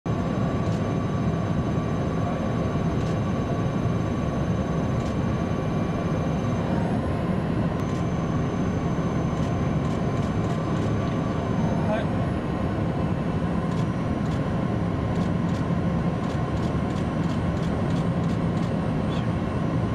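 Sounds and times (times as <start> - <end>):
aircraft engines droning: 0.1 - 19.9
thin steady whine: 0.1 - 19.9.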